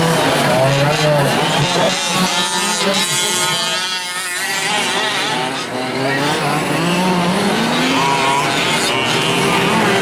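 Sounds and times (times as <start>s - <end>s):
small two-stroke engines revving: 0.0s - 10.0s.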